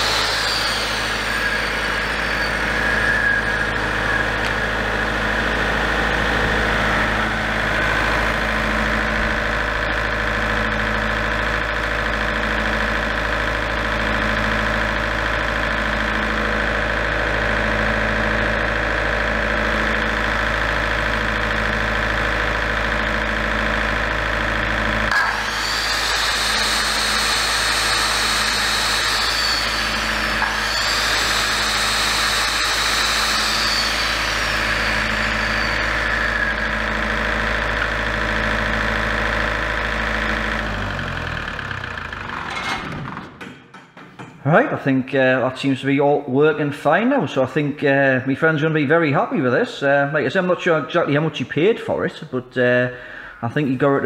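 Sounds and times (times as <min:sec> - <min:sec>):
circular saw whining: 0:00.0 - 0:43.4
diesel generator engine running: 0:00.0 - 0:43.4, 0:49.4 - 0:54.0.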